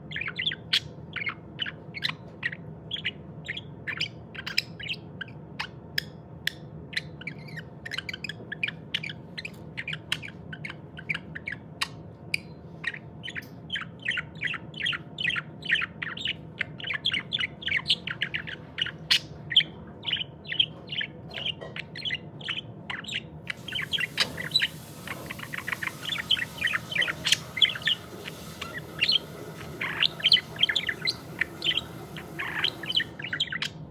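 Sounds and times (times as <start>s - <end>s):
low steady hum: 0.0s - 33.9s
budgerigar chirping: 0.1s - 33.9s.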